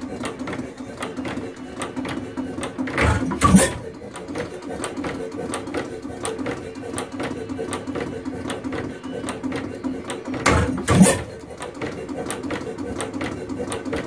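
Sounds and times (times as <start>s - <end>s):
engine mechanism clicking: 0.0s - 14.0s.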